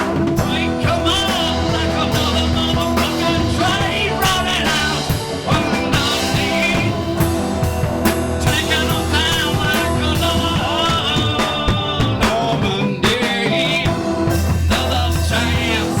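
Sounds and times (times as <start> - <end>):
psychedelic rock band playing: 0.0 - 16.0.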